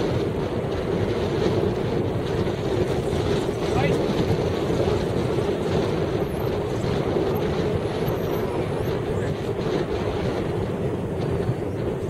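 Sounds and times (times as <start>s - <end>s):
heavy wind buffeting microphone: 0.0s - 12.0s.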